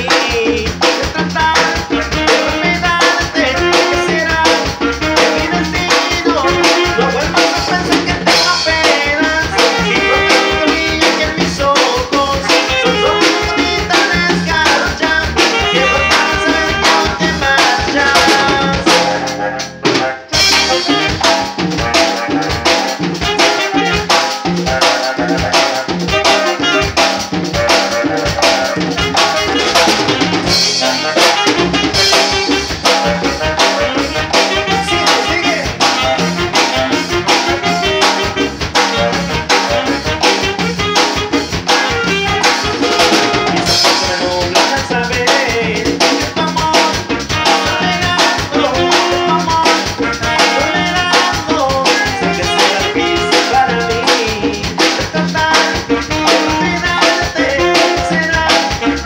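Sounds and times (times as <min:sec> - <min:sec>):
upbeat electronic dance music: 0:00.0 - 0:59.0.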